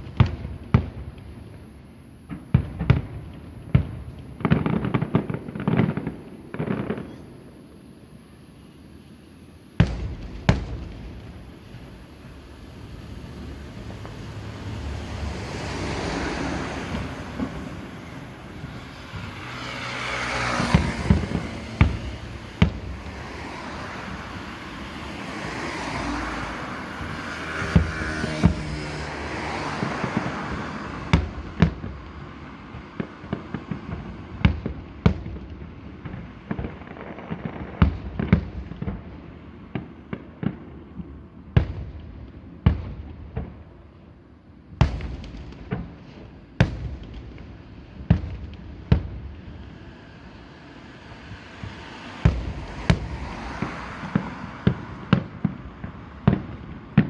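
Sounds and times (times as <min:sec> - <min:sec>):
crackling firework shells: 0:00.0 - 0:44.2, 0:44.8 - 0:57.0
sharp firework bangs and booms: 0:00.0 - 0:57.0.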